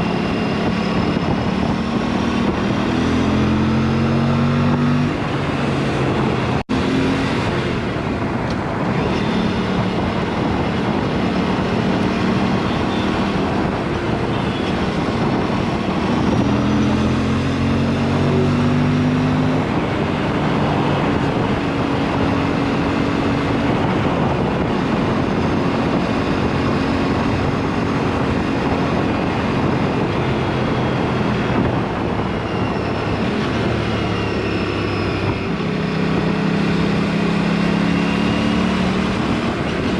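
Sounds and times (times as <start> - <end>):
motorcycle engine revving: 0.0 - 8.2, 8.8 - 39.9
wind noise: 0.0 - 39.9.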